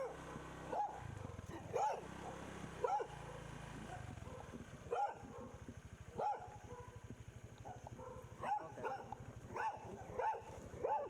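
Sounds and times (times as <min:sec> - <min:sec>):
dog barking: 0:00.0 - 0:05.6, 0:06.2 - 0:07.0, 0:07.6 - 0:11.0.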